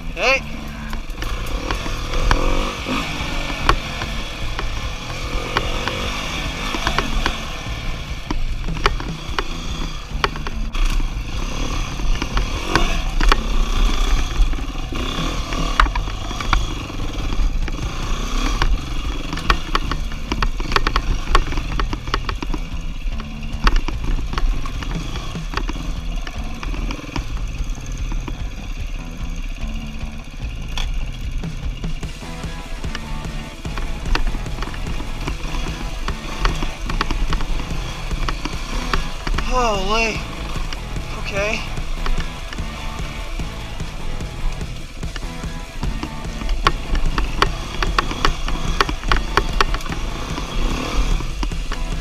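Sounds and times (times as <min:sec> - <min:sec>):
dirt bike engine revving: 0:00.0 - 0:52.0
knocks and clatter from bike: 0:00.0 - 0:52.0.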